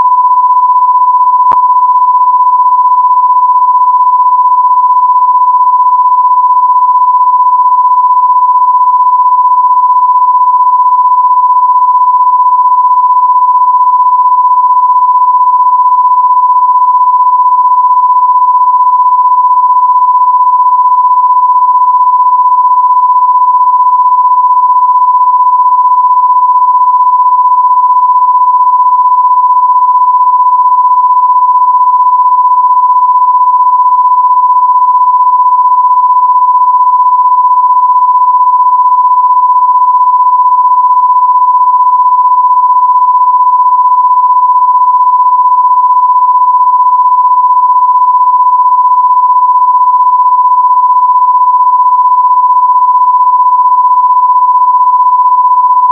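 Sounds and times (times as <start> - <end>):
electronic sine-wave tone: 0.0 - 55.9.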